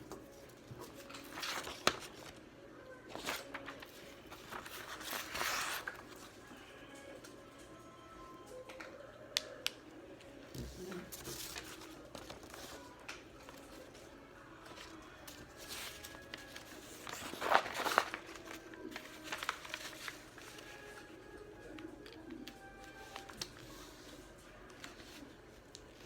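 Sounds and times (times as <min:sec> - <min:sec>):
paper rustling and crinkling: 0:00.0 - 0:02.4, 0:03.0 - 0:07.3, 0:10.5 - 0:26.0.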